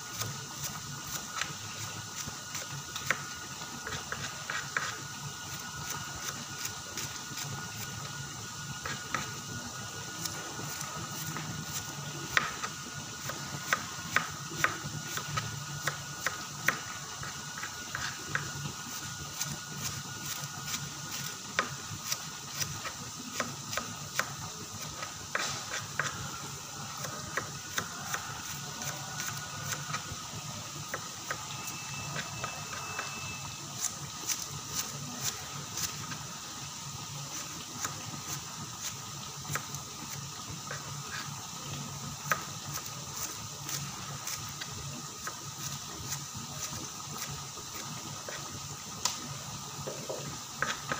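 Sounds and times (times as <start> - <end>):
shallots deep-frying in oil: 0.0 - 50.9.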